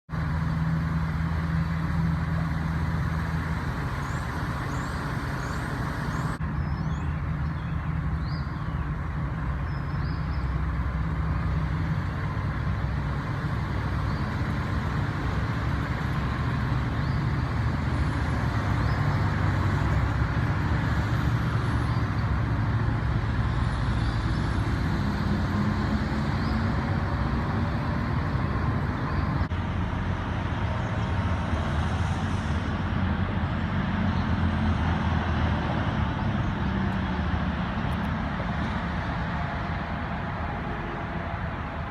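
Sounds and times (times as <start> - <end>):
vehicle engine running: 0.1 - 41.9.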